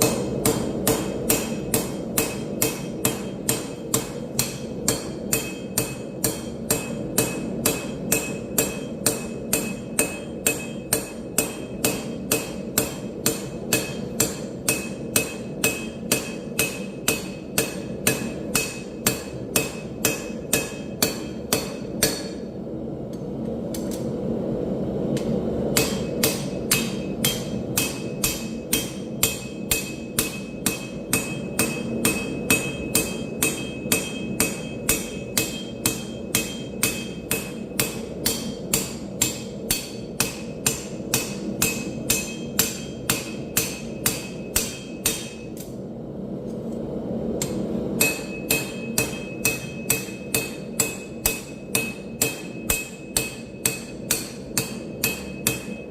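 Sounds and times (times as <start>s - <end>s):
hammer blows on anvil: 0.0s - 22.5s, 25.1s - 45.7s, 47.4s - 55.9s.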